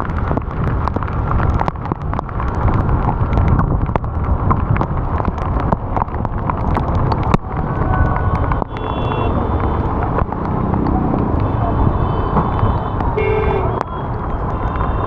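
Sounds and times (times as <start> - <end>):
raindrops ticking on microphone: 0.0 - 15.0
wind buffeting microphone: 0.0 - 15.0.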